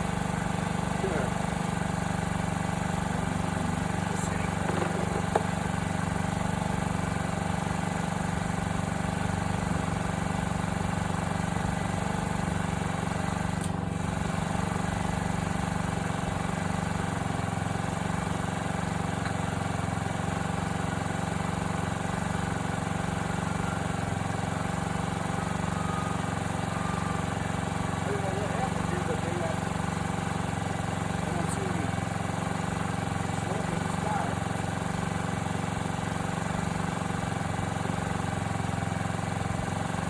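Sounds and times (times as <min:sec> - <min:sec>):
scooter engine idling: 0:00.0 - 0:40.0.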